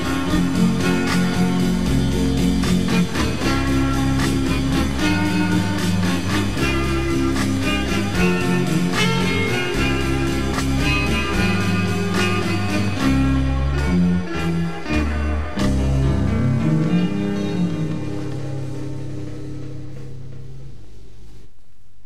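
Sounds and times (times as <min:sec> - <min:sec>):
electric guitar melody: 0:00.0 - 0:21.3
bass guitar: 0:00.0 - 0:21.4
drums: 0:00.0 - 0:22.0.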